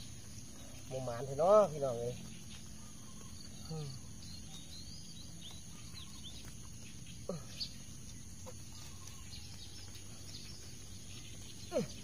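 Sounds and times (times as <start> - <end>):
birds chirping: 0.0 - 12.0
faint steady hum: 0.0 - 12.0.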